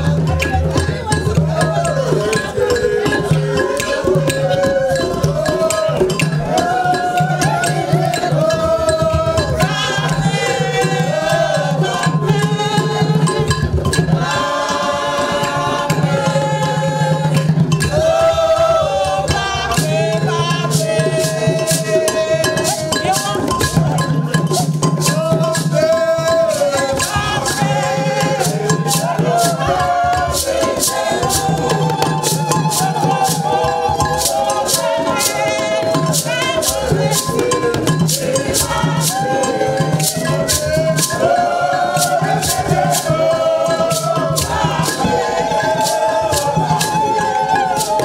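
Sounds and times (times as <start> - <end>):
choir singing: 0.0 - 48.0
hand rattles shaken to a beat: 0.0 - 48.0.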